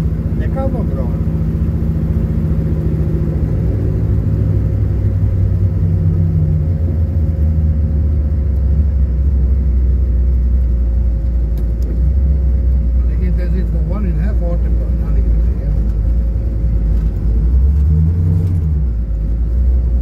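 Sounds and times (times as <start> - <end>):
car engine drone: 0.0 - 20.0
road noise: 0.0 - 20.0.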